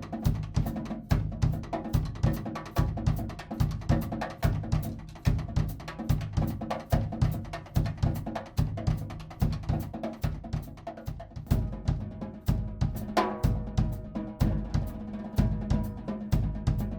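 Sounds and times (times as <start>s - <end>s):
drum kit solo: 0.0s - 16.9s
kick drum thumps: 0.4s - 16.9s.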